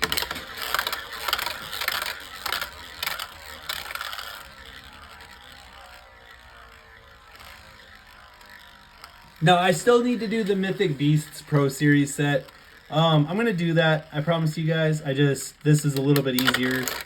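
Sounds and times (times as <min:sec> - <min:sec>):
spinning tops clicking and rattling: 0:00.0 - 0:17.0.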